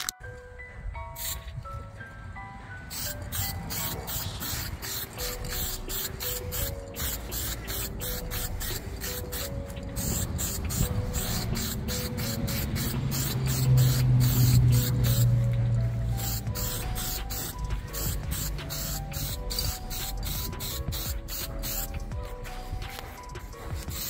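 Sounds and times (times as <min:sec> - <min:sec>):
faint background music: 0:00.0 - 0:24.0
spray can hissing in short bursts: 0:01.2 - 0:01.4, 0:02.9 - 0:15.4, 0:16.1 - 0:24.0.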